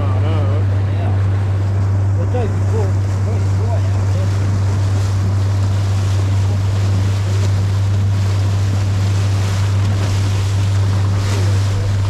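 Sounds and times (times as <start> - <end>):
boat engine droning: 0.0 - 12.0
water rushing past hull: 0.0 - 12.0
wind buffeting microphone: 0.6 - 12.0.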